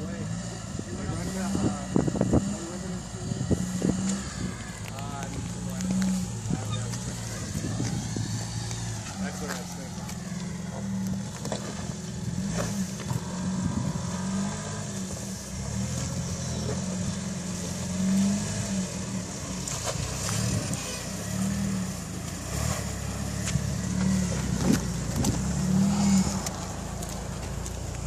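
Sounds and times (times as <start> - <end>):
off-road vehicle engine revving: 0.0 - 28.0.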